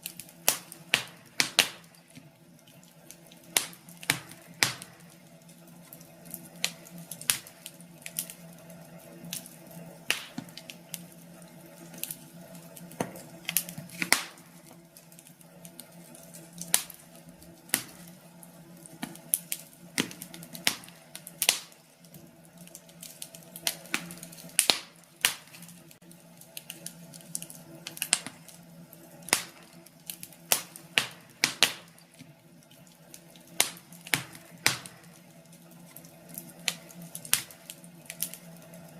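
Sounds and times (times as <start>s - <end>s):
steady low hum: 0.0s - 38.9s
wood fire crackling: 0.0s - 38.9s.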